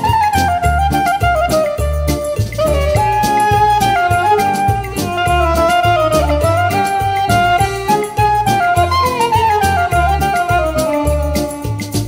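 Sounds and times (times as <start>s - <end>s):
steady beat and bass: 0.0s - 12.0s
woodwind-like melody: 0.0s - 12.0s.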